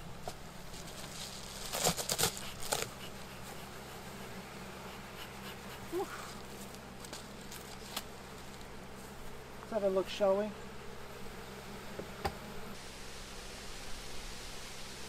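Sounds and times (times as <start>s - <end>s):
bee flying close past: 0.0s - 15.0s
honeybees buzzing: 0.0s - 15.0s.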